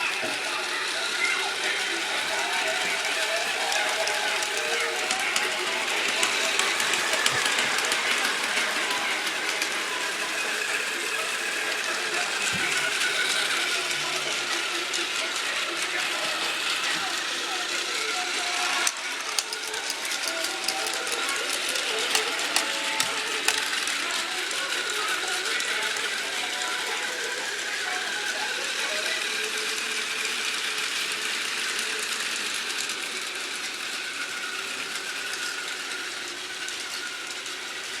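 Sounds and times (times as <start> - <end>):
model train whirring on track: 0.0 - 38.0.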